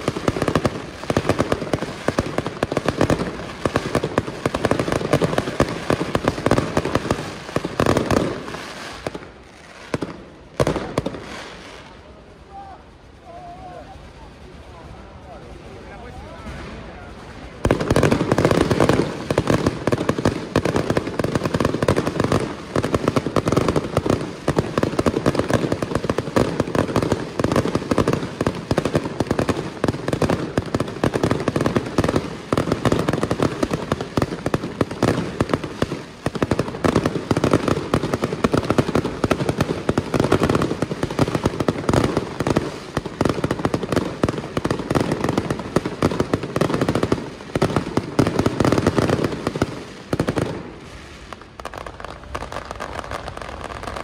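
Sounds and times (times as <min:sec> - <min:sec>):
fireworks bursts and crackles: 0:00.0 - 0:54.0.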